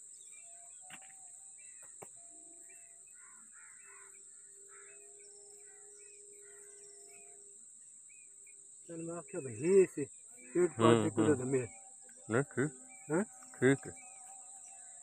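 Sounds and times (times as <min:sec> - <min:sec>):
birds chirping and calling: 0:00.0 - 0:15.0
high-pitched insect buzz: 0:00.0 - 0:15.0.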